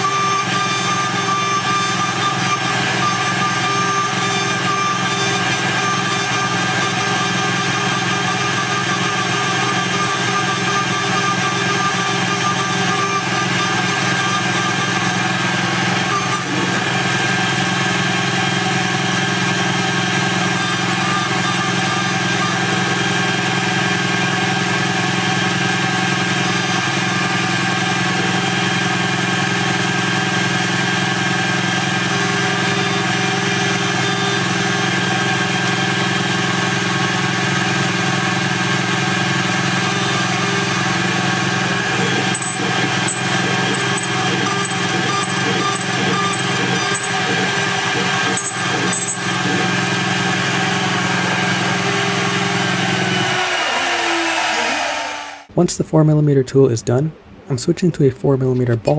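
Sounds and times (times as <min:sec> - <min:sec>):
milling machine whine: 0:00.0 - 0:55.5.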